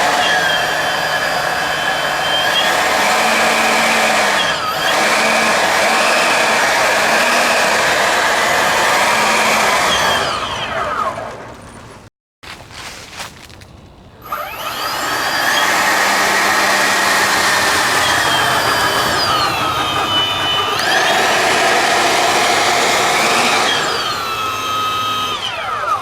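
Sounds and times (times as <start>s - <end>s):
electric ducted fans whining: 0.0s - 26.0s.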